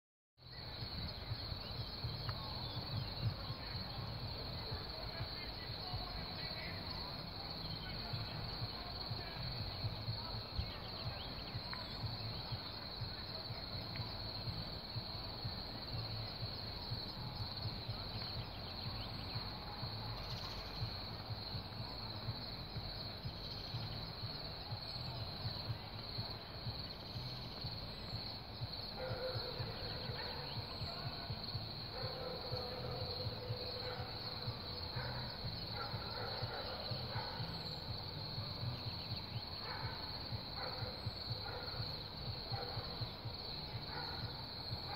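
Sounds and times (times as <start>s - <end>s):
high-pitched hiss: 0.4s - 44.9s.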